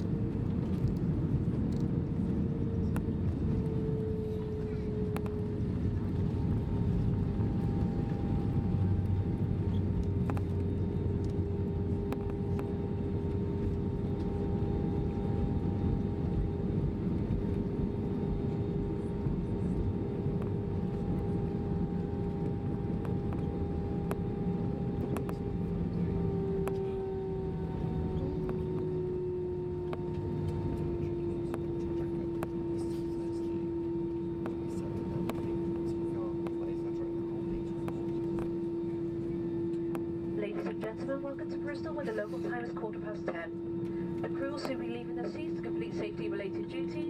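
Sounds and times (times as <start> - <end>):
jet engines idling whine: 0.0 - 47.0
low cabin rumble: 0.0 - 47.0.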